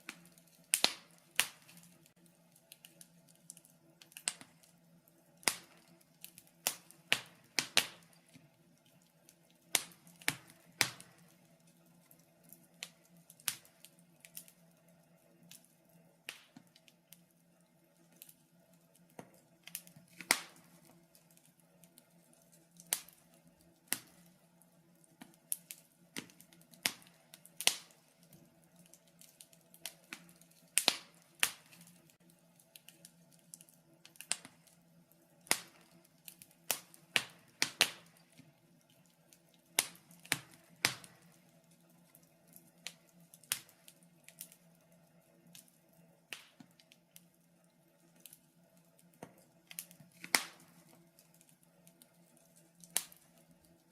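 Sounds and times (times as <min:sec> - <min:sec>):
faint steady hum: 0:00.0 - 0:53.9
wood fire crackling and popping: 0:00.0 - 0:53.9.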